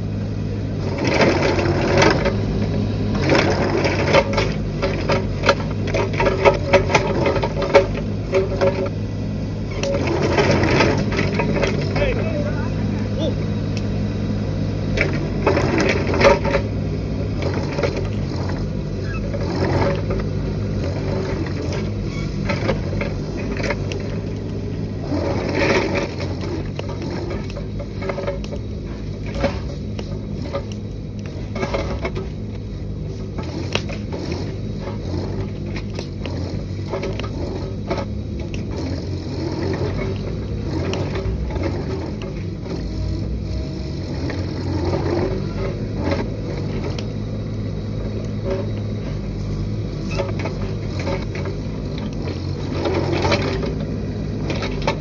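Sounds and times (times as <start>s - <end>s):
diesel engine running: 0.0s - 55.0s
clanks knocks and scraping: 0.8s - 13.3s, 14.9s - 55.0s.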